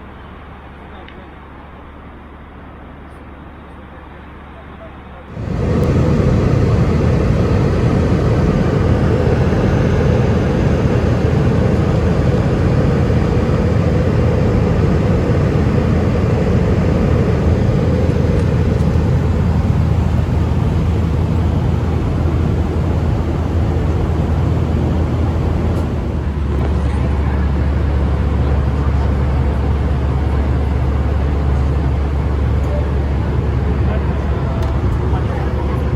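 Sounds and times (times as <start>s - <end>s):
airplane cabin engine rush: 5.3s - 35.9s.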